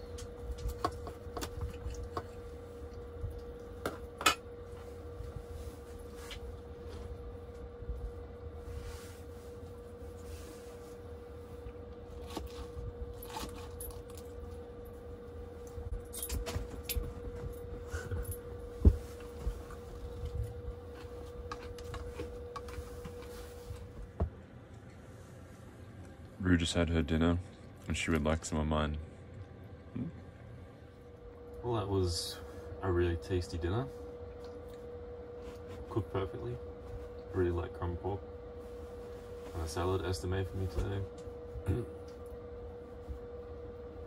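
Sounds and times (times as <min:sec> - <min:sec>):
faint hum: 0:00.0 - 0:44.0.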